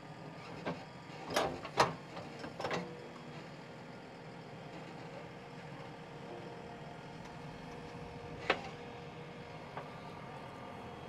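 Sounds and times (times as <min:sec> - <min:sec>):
faint mechanical hum with whine: 0:00.0 - 0:11.0.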